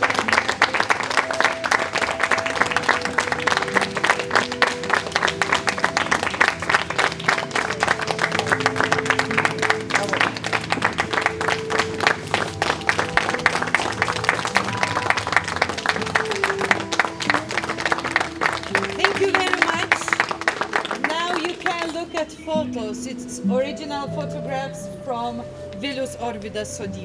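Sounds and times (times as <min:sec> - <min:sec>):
audience applauding: 0:00.0 - 0:22.4
slow melody music: 0:00.0 - 0:27.0.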